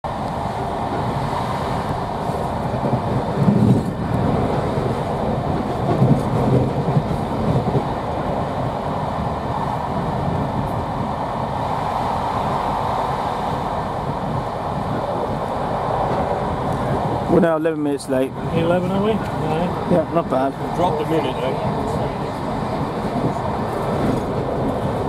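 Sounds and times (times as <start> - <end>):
railway carriage running noise: 0.0 - 25.0.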